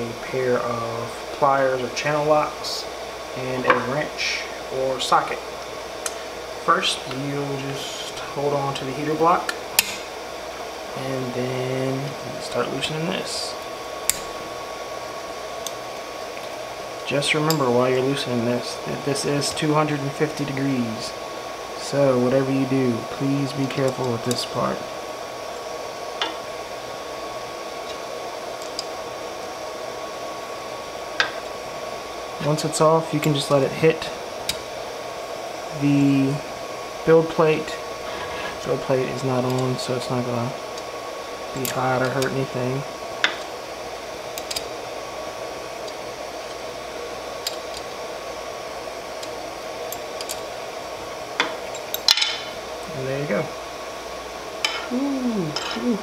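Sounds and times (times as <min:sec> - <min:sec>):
cooling fan hissing: 0:00.0 - 0:56.0.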